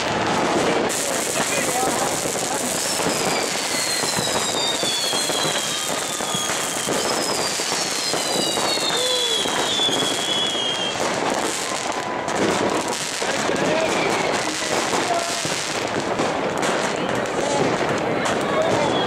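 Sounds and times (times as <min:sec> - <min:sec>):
fireworks crackling and popping: 0:00.0 - 0:19.0
fireworks whistles falling in pitch: 0:00.9 - 0:17.3, 0:18.3 - 0:19.0.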